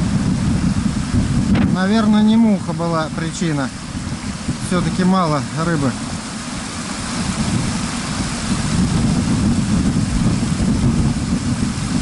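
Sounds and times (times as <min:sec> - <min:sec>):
fast-flowing stream rushing: 0:00.0 - 0:12.0.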